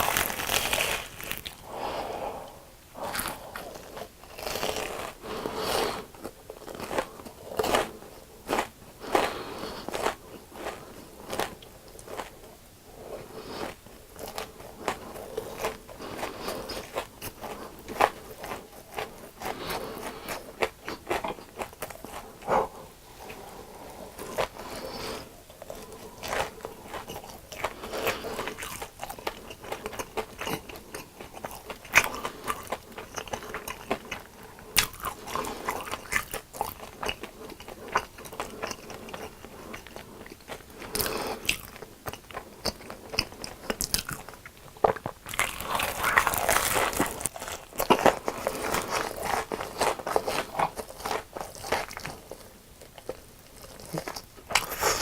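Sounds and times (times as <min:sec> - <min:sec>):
crunchy food chewing: 0:00.0 - 0:55.0.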